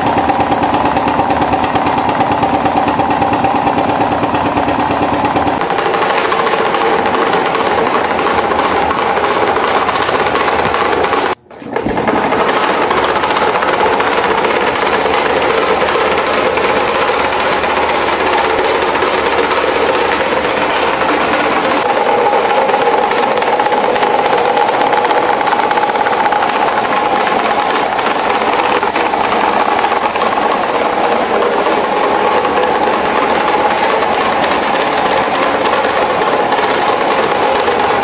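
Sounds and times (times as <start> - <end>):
electric fans whirring: 0.0 - 38.0.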